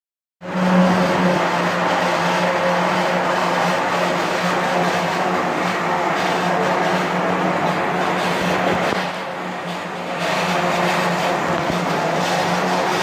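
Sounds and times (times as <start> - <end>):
laundry machines humming: 0.4 - 13.0.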